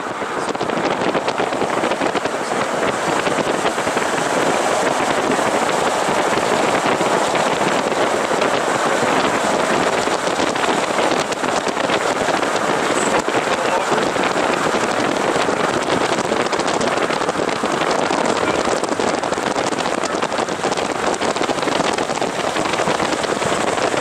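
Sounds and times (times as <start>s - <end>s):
car road and wind noise: 0.0s - 24.0s
wind buffeting microphone: 0.0s - 24.0s.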